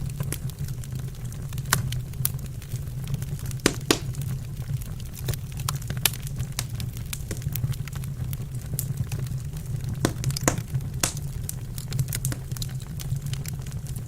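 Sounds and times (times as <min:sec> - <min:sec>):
burning wood crackling and popping: 0:00.0 - 0:14.0
flames rumbling: 0:00.0 - 0:14.0.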